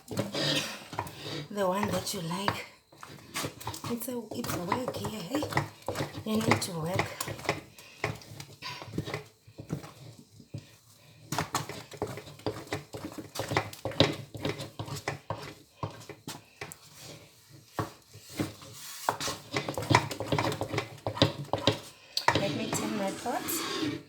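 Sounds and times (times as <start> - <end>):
spoon scraping a cooking pot: 0.0 - 24.0.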